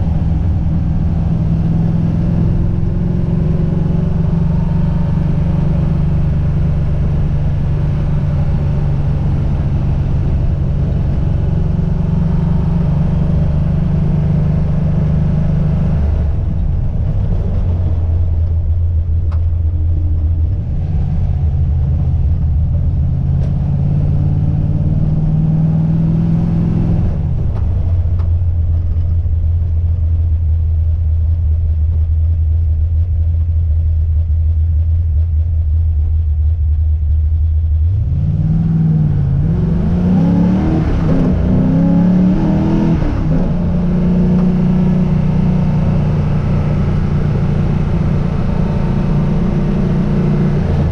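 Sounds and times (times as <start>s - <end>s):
car engine driving slowly: 0.0s - 50.9s.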